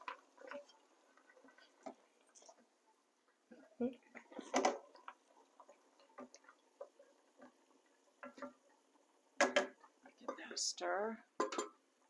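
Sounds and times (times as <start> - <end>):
soft pops of simmering bubbles: 0.0 - 10.6.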